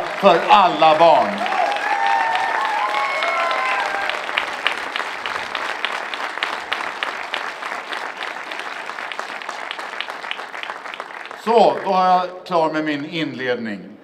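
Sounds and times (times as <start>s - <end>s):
crowd applauding: 0.0s - 12.1s.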